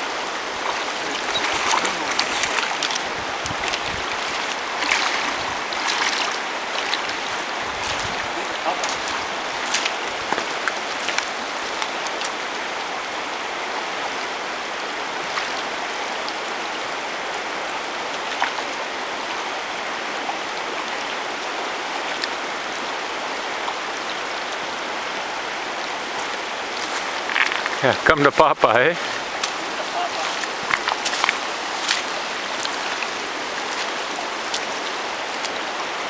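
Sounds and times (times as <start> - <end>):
river rushing over stones: 0.0 - 36.0.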